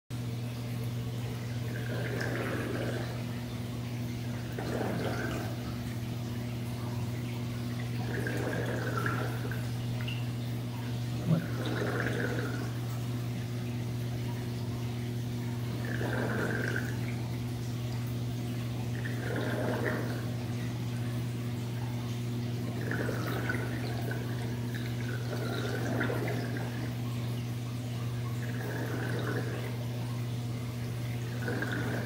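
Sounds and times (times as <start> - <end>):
aquarium water sloshing and gurgling: 0.1 - 32.0
steady low hum: 0.1 - 32.0.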